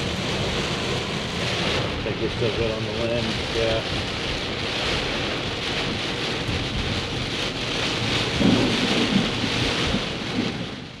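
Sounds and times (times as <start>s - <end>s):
heavy rain: 0.0s - 11.0s
thunder rumbling: 0.0s - 11.0s.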